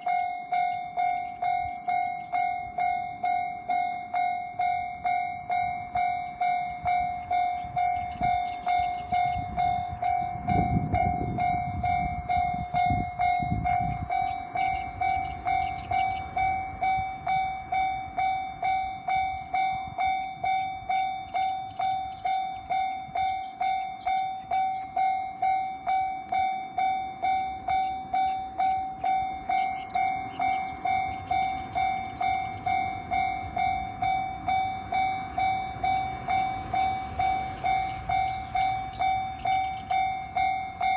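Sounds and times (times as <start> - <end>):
railroad crossing bell ringing: 0.0 - 40.9.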